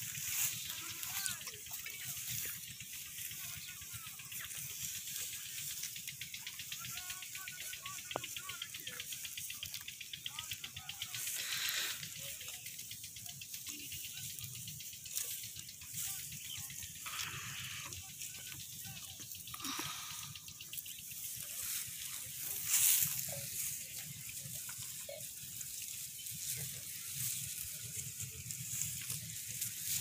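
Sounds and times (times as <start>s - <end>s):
faint chirps: 0.0s - 30.0s
rustling flutter: 0.0s - 30.0s
steady hiss: 0.0s - 30.0s.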